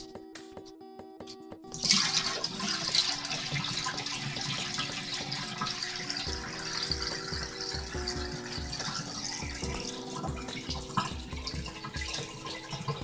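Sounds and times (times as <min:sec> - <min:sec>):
faint music: 0:00.0 - 0:13.0
water rushing in washing machine tub: 0:01.7 - 0:13.0.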